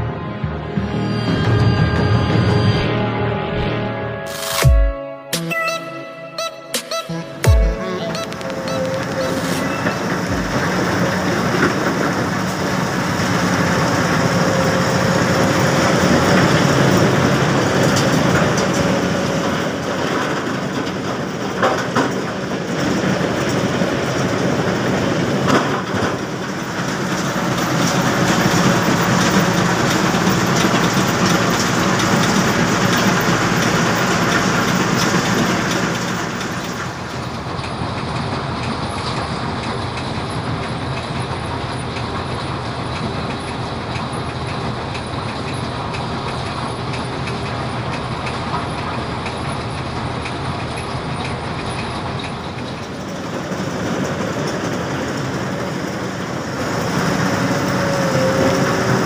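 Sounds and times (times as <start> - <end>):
heavy machinery clattering rumble: 8.4 - 59.0.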